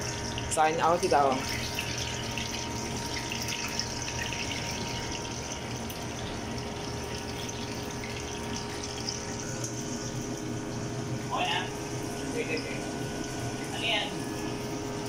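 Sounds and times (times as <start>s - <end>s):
faint kitchen hum: 0.0s - 15.0s
shrimp frying in hot oil: 0.0s - 15.0s.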